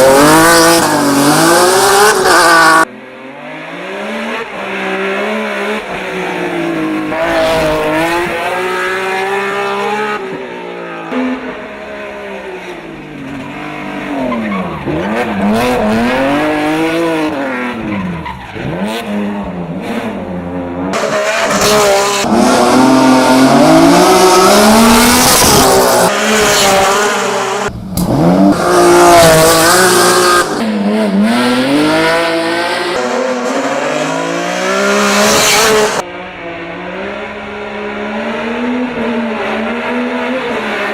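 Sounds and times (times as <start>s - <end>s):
race car engine revving hard: 0.0s - 10.2s, 13.6s - 40.9s.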